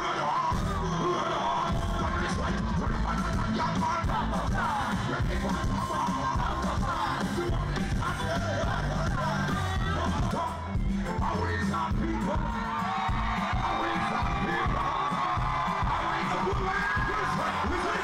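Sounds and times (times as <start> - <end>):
crowd yelling: 0.0 - 18.0
live band music: 0.0 - 18.0
singers' voices: 0.0 - 18.0.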